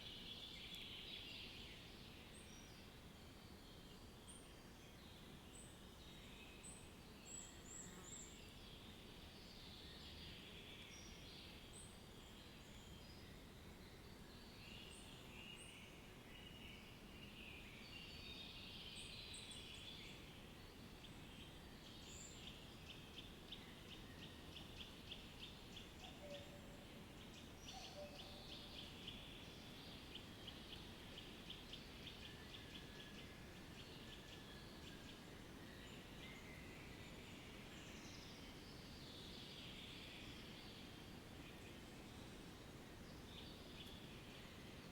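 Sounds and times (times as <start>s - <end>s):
low steady background hiss: 0.0s - 44.9s.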